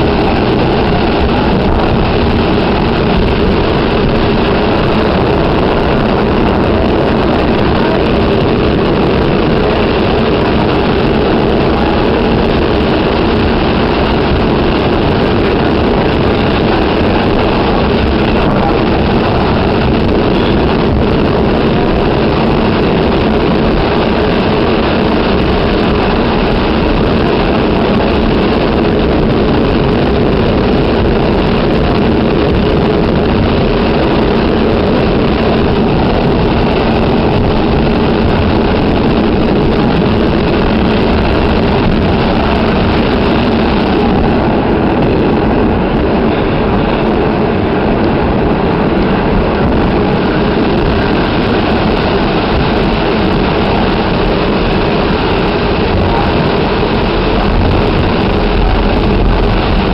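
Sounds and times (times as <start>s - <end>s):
train running noise from inside: 0.0s - 59.9s.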